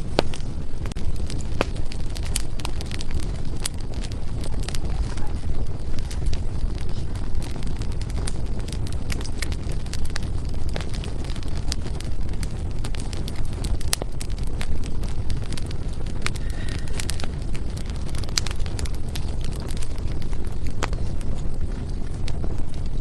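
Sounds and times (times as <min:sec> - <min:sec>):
firewood crackling and popping: 0:00.0 - 0:23.0
low rumble: 0:00.0 - 0:23.0.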